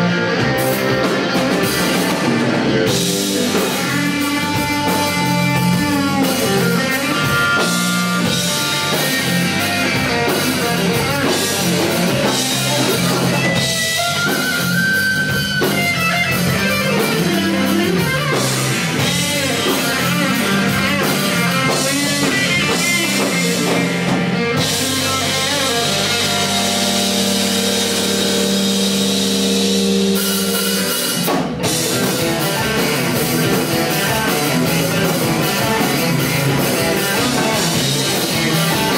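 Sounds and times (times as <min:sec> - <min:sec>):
drum kit: 0:00.0 - 0:38.9
electric guitar lines: 0:00.0 - 0:38.9
live rock band playing: 0:00.0 - 0:38.9.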